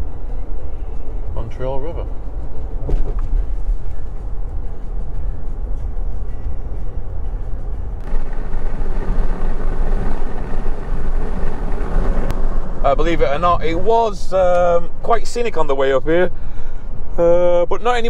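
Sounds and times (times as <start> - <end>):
road and engine rumble inside car: 0.0 - 18.0.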